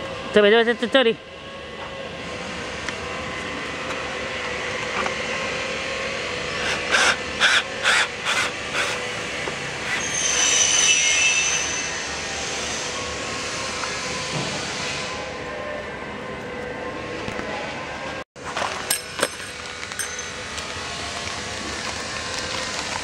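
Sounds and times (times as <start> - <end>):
factory background noise: 0.0 - 23.0
high whine: 0.0 - 23.0.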